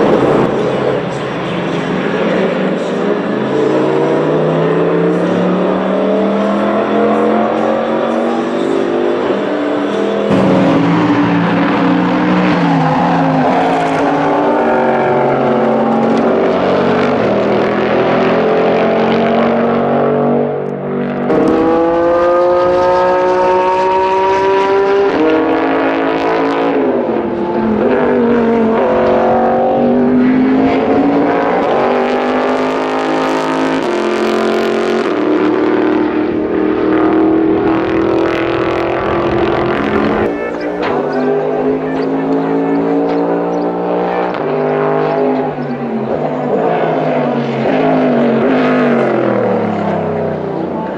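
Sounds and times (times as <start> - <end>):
race car engine accelerating: 0.0 - 50.9.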